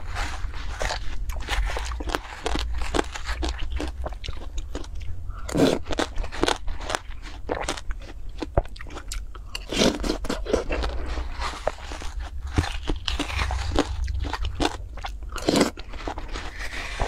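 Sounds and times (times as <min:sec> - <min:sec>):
chewing watermelon crunches: 0:00.0 - 0:17.0.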